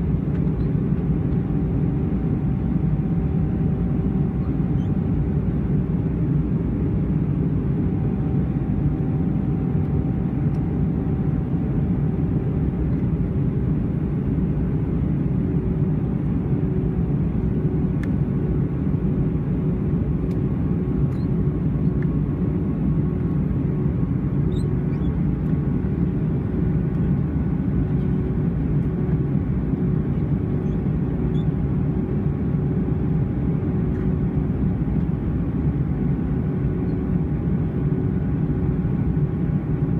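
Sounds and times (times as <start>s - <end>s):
engine and airflow rush: 0.0s - 39.9s
faint steady hum: 0.0s - 39.9s.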